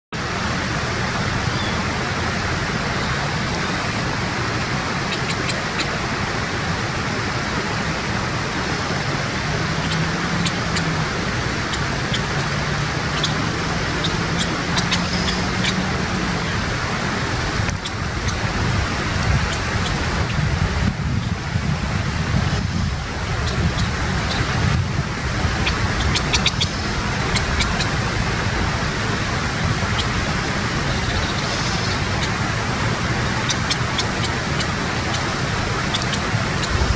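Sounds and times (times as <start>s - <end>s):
rushing background noise: 0.2s - 36.9s.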